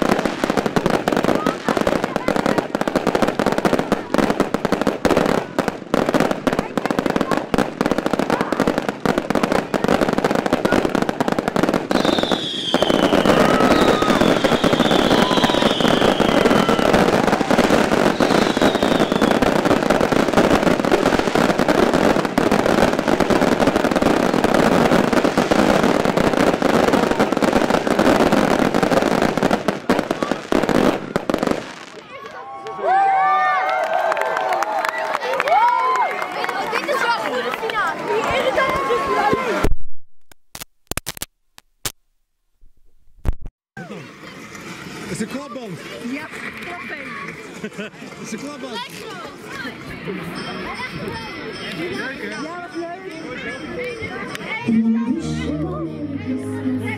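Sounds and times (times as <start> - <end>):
fireworks bangs and crackling: 0.0 - 32.8, 36.3 - 39.9, 43.2 - 54.7.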